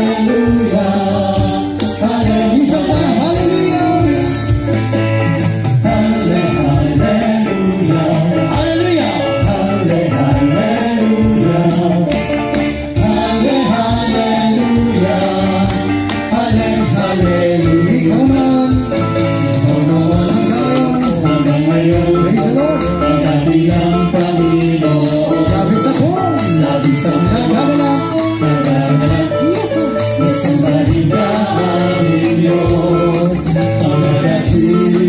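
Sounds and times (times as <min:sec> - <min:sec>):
live band guitar accompaniment: 0:00.0 - 0:35.0
worship song singing: 0:00.0 - 0:35.0.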